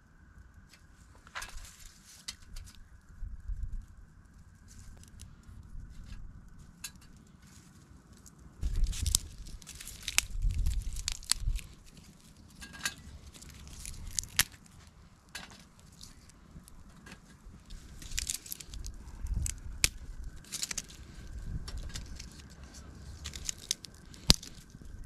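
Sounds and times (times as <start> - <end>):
wood fire crackling: 0.0 - 25.0
dry sticks snapping: 0.6 - 3.0, 4.3 - 25.0.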